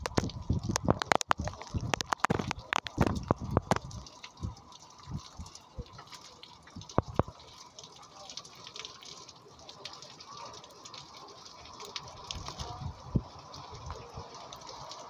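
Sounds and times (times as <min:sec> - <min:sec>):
heavy rain: 0:00.0 - 0:15.0
sharp water drips: 0:00.0 - 0:15.0.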